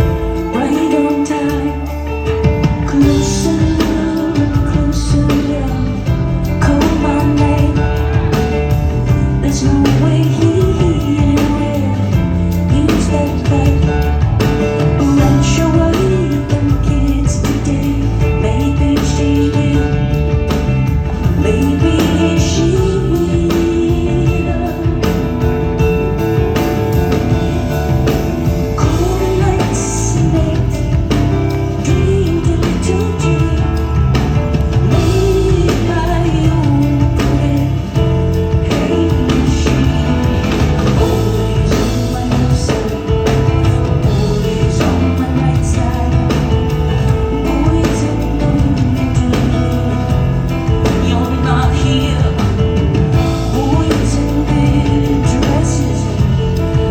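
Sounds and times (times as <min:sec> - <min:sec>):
bass: 0:00.0 - 0:56.9
drums keeping a steady beat: 0:00.0 - 0:56.9
piano and keyboards: 0:00.0 - 0:56.9
woman singing: 0:00.0 - 0:56.9.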